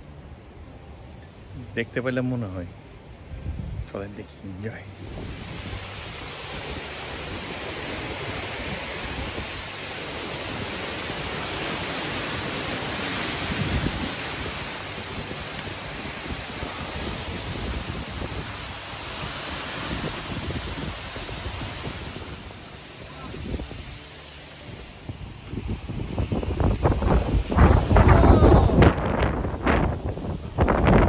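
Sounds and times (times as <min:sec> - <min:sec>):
wind buffeting the microphone: 0:02.6 - 0:31.0
wind rushing: 0:03.2 - 0:03.9, 0:04.7 - 0:31.0.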